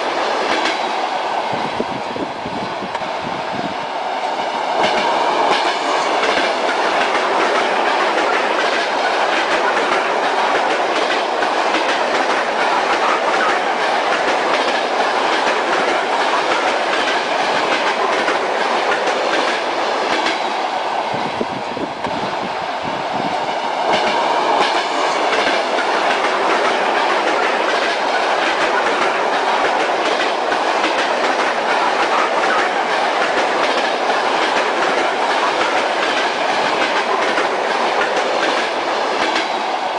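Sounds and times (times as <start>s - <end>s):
train wheels clickety-clack: 0.0s - 2.1s, 3.7s - 39.9s.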